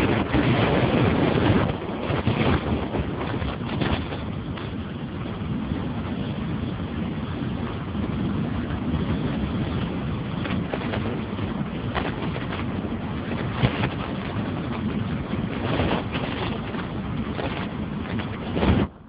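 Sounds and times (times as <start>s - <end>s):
moving vehicle running noise: 0.0s - 19.0s
wind buffeting microphone: 0.0s - 19.0s.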